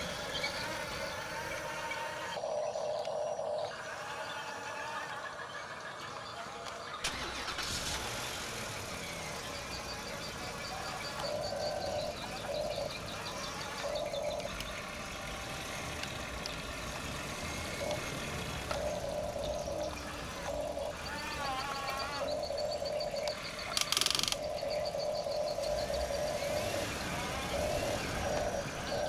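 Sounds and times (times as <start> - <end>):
engine-like mechanical noise: 0.0 - 29.0.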